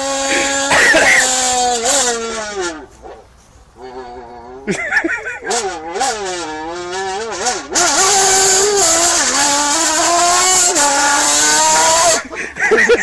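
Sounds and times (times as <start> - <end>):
drink can buzzing like a motorcycle: 0.0 - 3.2, 3.8 - 13.0.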